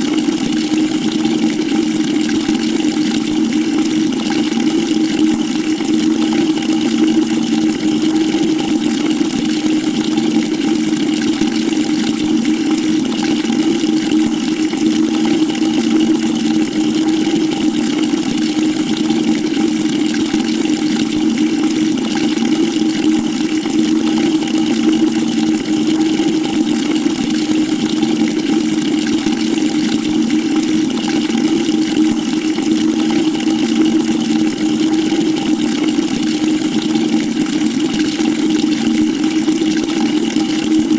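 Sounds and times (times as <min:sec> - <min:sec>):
tap water splashing into bucket: 0:00.0 - 0:40.9.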